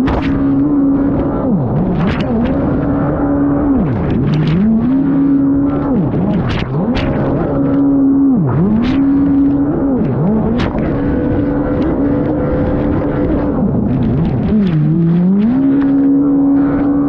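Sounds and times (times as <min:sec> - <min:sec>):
jet ski engine revving: 0:00.0 - 0:17.0.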